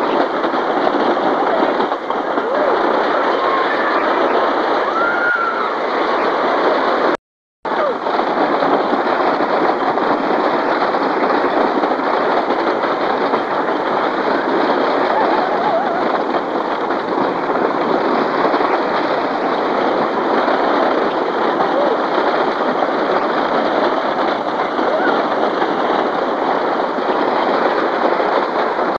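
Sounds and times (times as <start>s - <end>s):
roller coaster rattling on wooden track: 0.0s - 28.9s.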